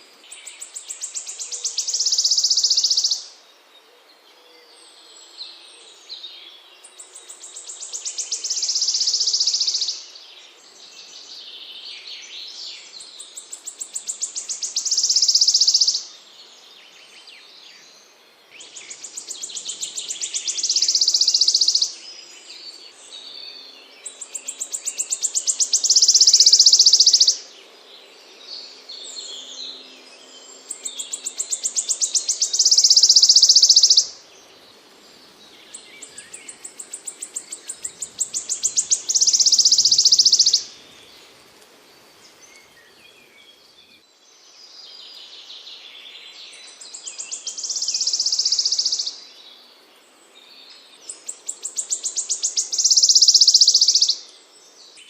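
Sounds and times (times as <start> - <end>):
songbird ticks and buzzy trill: 0.0 - 3.5, 6.1 - 11.4, 12.2 - 17.0, 17.8 - 45.3, 46.6 - 55.0
soft bird twittering: 0.3 - 3.3, 6.9 - 10.1, 10.8 - 16.1, 18.6 - 27.5, 28.9 - 41.3, 42.2 - 49.7, 50.3 - 55.0.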